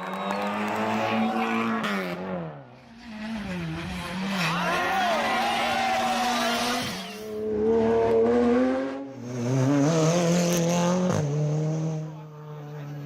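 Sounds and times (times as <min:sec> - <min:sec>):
rally car engines at full throttle: 0:00.0 - 0:13.0.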